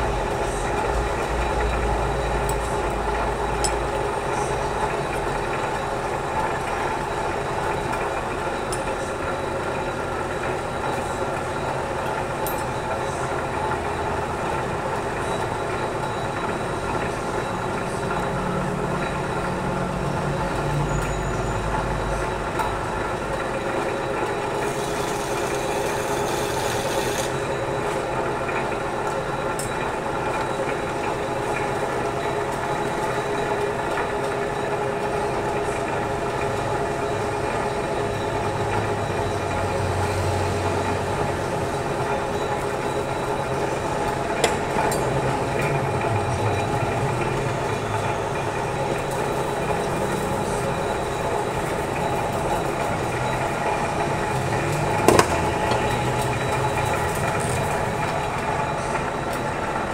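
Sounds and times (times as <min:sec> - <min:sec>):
metal lathe humming: 0:00.0 - 0:59.9.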